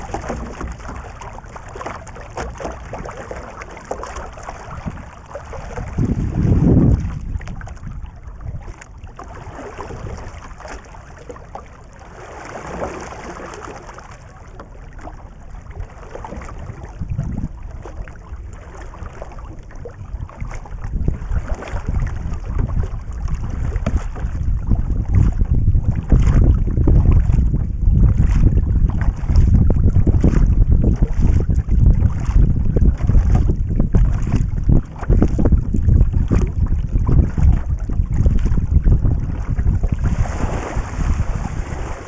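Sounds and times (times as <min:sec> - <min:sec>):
wind on microphone: 0:00.0 - 0:11.3, 0:15.0 - 0:42.0
paddle splashing in water: 0:00.0 - 0:42.0.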